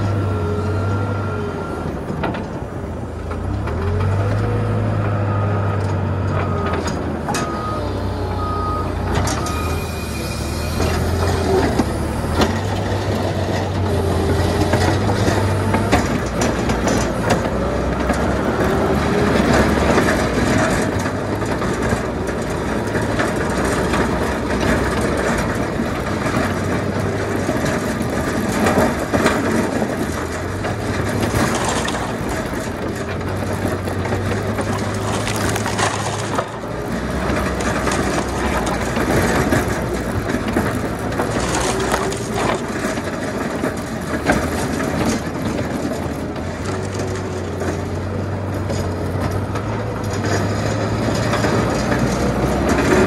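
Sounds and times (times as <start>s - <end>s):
plow blade scraping snow and ice: 0.0s - 53.0s
tractor engine running: 0.0s - 53.0s.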